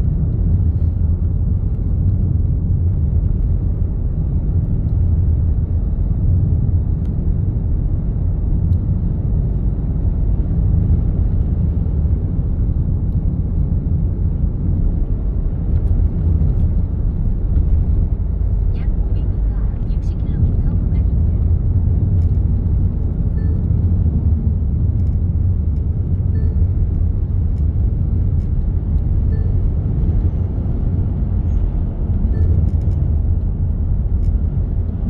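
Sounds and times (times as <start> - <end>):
vehicle driving on road: 0.0 - 35.0.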